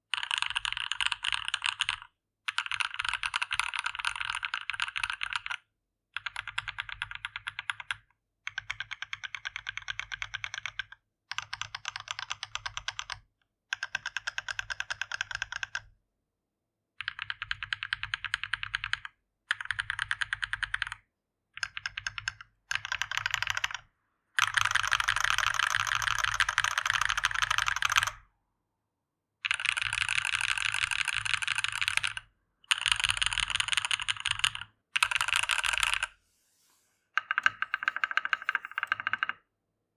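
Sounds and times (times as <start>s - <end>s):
mechanical keyboard typing: 0.1s - 5.6s, 6.2s - 13.2s, 17.0s - 21.0s, 21.6s - 28.2s, 29.4s - 36.1s, 37.2s - 39.4s.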